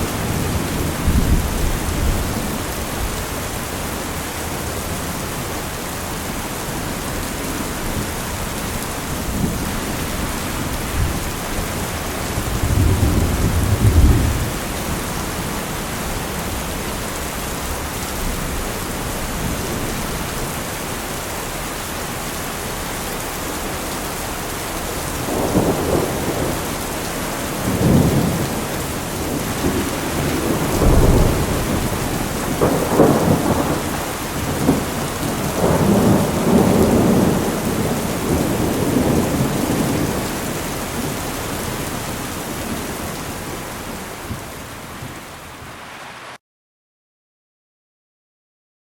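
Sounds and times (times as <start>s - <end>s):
thunder rumbling: 0.0s - 21.1s, 22.1s - 45.2s
heavy rain: 0.0s - 46.4s.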